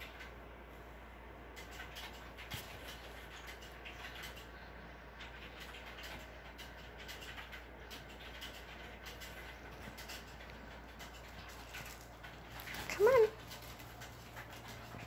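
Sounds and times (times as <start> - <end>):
cat toy rustling and ticking: 0.0 - 15.0.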